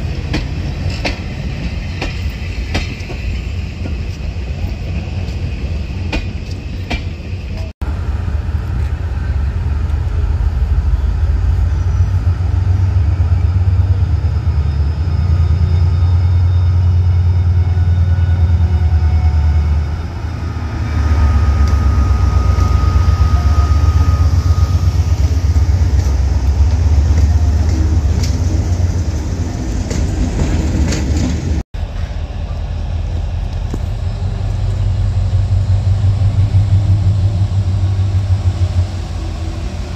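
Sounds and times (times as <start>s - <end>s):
diesel locomotive rumbling: 0.0s - 39.9s.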